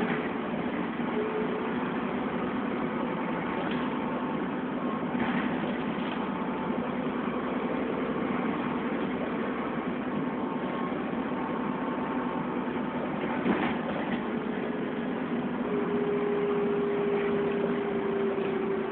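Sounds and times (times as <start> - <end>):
bus engine drone: 0.0 - 18.9.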